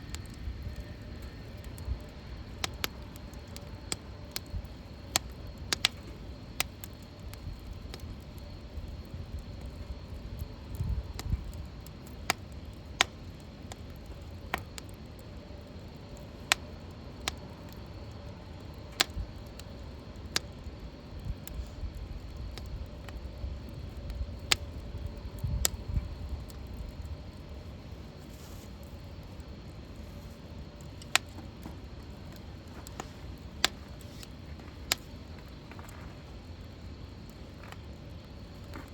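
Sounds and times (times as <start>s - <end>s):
fire pops: 0.0s - 38.9s
low steady fire rumble: 0.0s - 38.9s
wood fire crackling: 0.0s - 38.9s.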